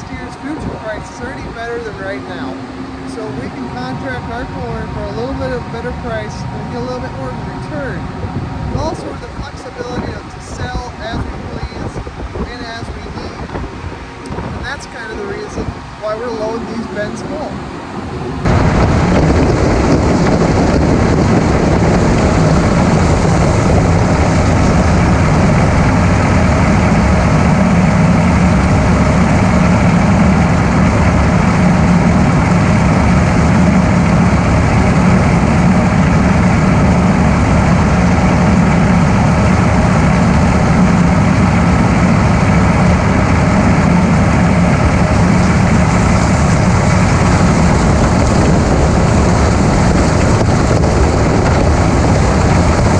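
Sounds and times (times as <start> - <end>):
diesel machinery engine humming: 0.0 - 52.9
mechanical rush: 0.0 - 52.9.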